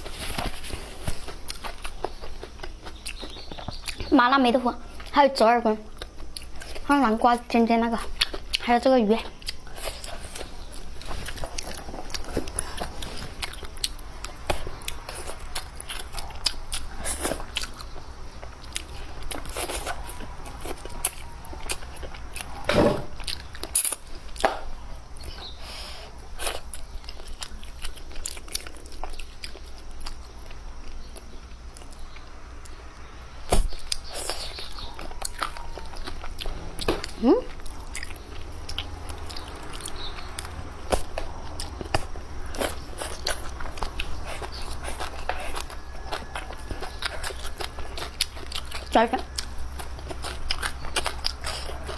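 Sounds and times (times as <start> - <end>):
person chewing food: 0.0 - 4.1, 5.9 - 7.0, 8.0 - 51.9.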